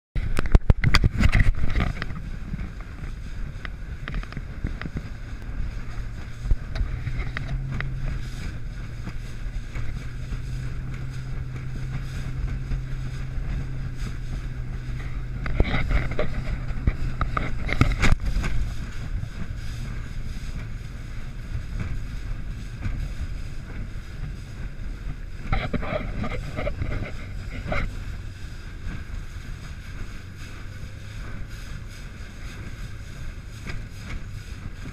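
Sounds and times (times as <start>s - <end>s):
hull splashing on waves: 0.2s - 34.9s
outboard motor drone: 0.2s - 34.9s
rush of wind and water: 0.2s - 34.9s.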